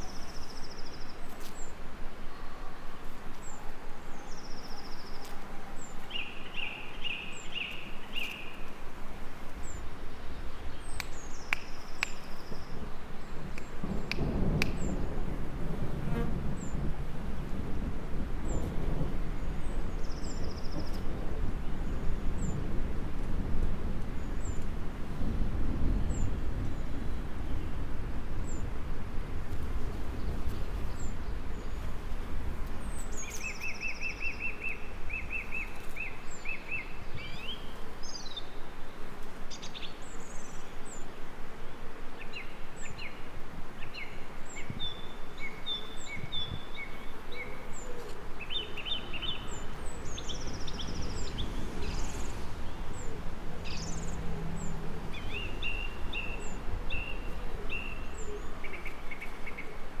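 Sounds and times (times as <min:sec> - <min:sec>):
songbirds singing and chirping: 0:00.0 - 0:22.9, 0:29.5 - 1:00.0
low rumbling background noise: 0:00.0 - 1:00.0.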